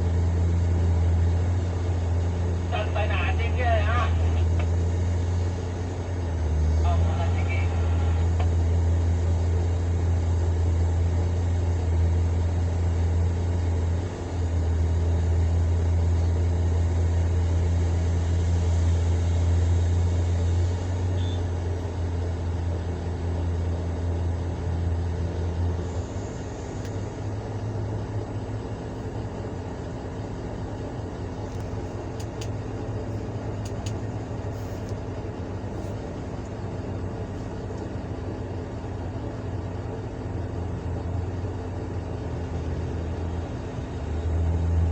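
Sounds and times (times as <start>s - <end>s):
excavator diesel engine droning: 0.0s - 44.9s.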